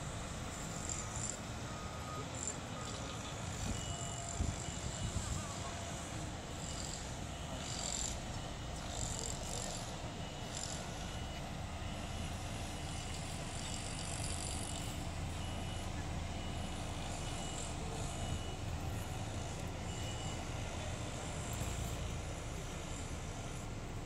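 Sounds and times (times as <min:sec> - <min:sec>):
diesel machinery rumbling: 0:00.0 - 0:24.0
faint high beeps: 0:00.0 - 0:24.0.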